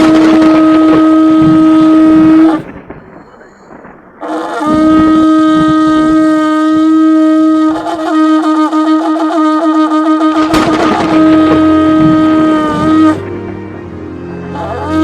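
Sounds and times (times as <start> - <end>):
shofar blowing long note: 0.0 - 2.7, 4.2 - 15.0.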